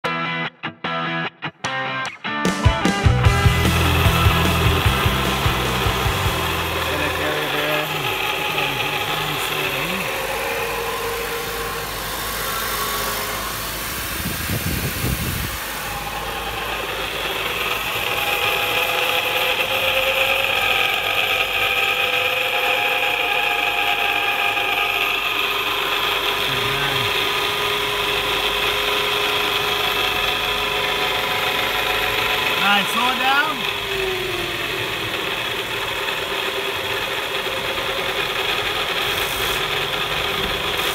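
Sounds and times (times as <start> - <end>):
drive shaft bearing whine: 3.0 - 40.9.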